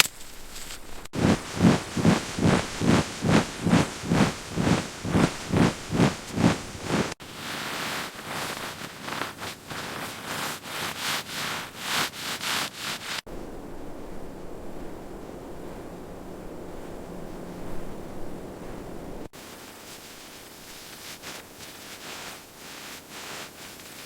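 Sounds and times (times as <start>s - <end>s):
crunching and scraping in snow: 0.0s - 24.0s
steady hiss: 0.0s - 24.0s.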